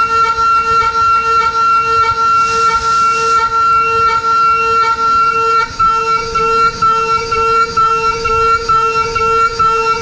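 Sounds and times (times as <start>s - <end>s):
cnc mill spindle whine: 0.0s - 10.0s.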